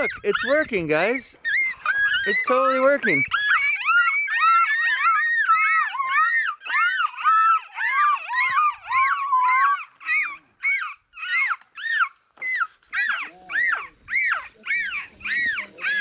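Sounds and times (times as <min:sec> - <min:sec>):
jays calling: 0:00.0 - 0:16.0.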